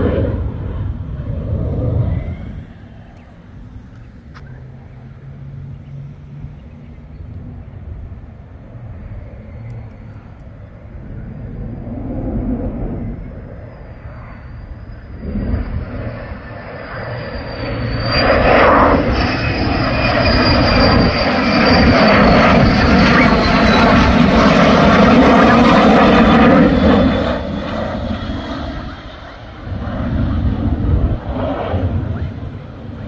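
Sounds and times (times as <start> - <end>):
fighter jet flying past: 0.0 - 33.0.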